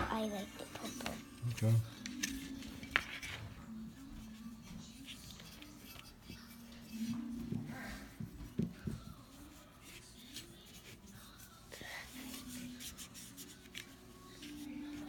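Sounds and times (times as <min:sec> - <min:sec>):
paintbrushes scratching and dabbing: 0:00.0 - 0:15.0.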